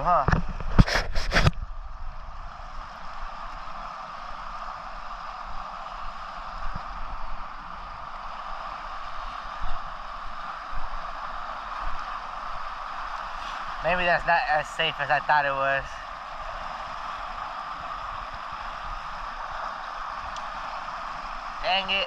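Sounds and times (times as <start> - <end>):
fast river current rushing: 0.0 - 22.0.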